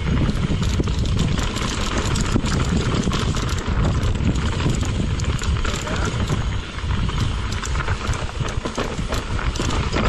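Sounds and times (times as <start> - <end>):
bike rattling: 0.0 - 10.0
bike tyres rolling over rocks: 0.0 - 10.0.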